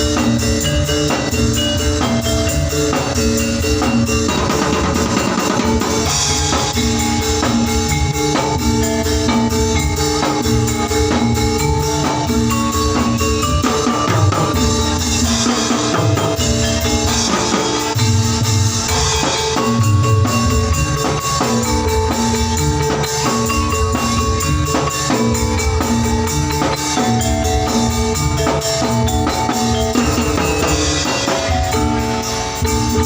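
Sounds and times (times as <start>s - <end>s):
bamboo percussion ensemble: 0.0s - 33.0s
drums: 0.0s - 33.0s
tuned mallet notes: 0.0s - 33.0s.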